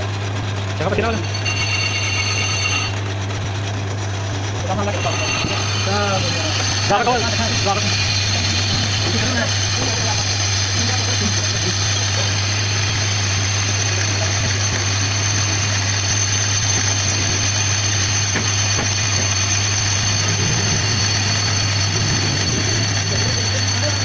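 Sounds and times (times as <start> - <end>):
lathe motor hum: 0.0 - 24.0.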